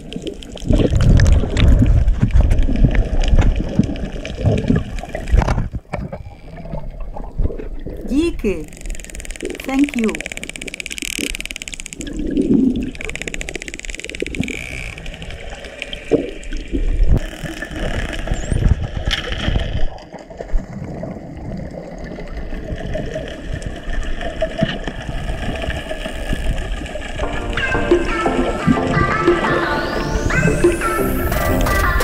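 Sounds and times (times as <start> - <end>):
water rushing and sloshing underwater: 0.0 - 32.0.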